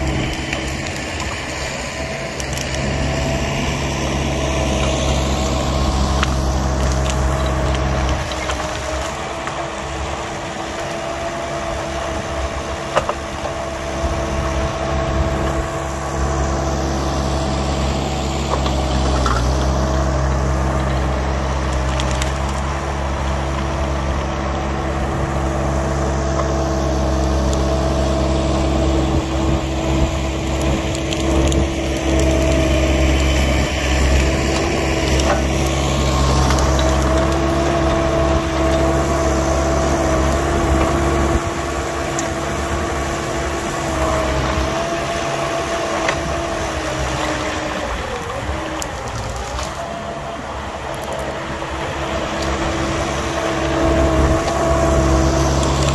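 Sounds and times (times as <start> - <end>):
engine running under load: 0.0 - 55.9
wood crushing and splintering: 0.0 - 55.9.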